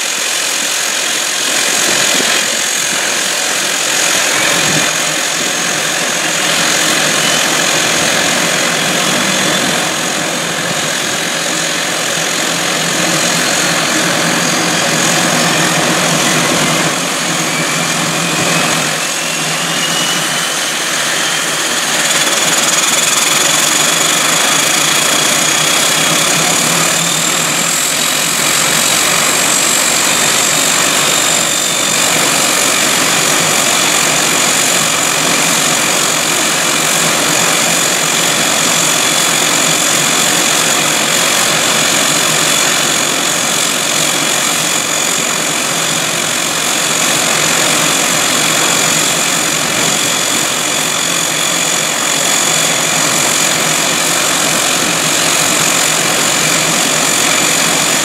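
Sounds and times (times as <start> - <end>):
turboprop engine idling: 0.0 - 58.0.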